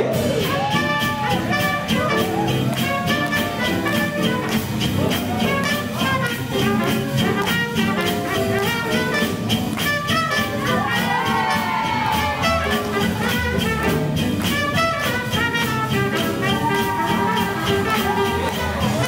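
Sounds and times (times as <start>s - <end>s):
drums keeping a beat: 0.0s - 19.0s
horn lines: 0.0s - 19.0s
upright bass: 0.0s - 19.0s.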